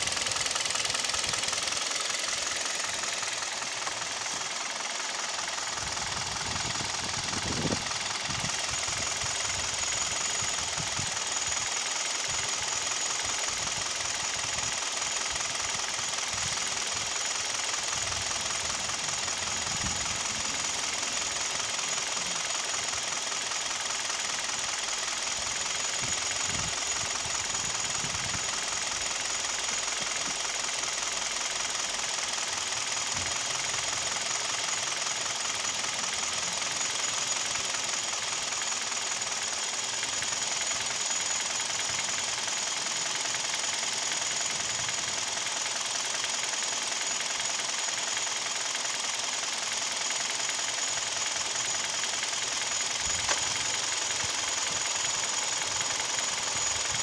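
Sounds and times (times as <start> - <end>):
car engine knocking: 0.0 - 57.0.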